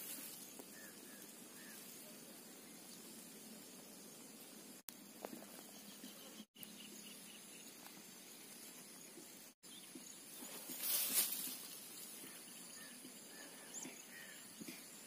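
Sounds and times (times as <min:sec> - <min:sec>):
steady outdoor hiss: 0:00.0 - 0:15.0
faint bird chirps: 0:00.1 - 0:04.2, 0:05.4 - 0:08.0, 0:08.6 - 0:15.0.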